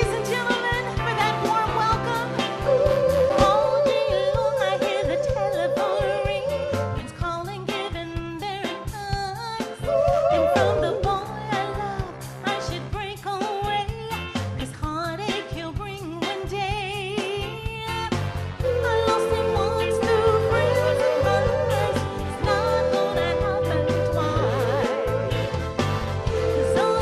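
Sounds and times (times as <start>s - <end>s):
soul song with band: 0.0s - 27.0s.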